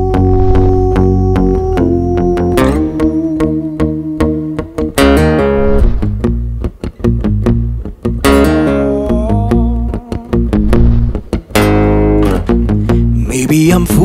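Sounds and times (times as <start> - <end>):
pop song with plucked guitar: 0.0 - 14.0.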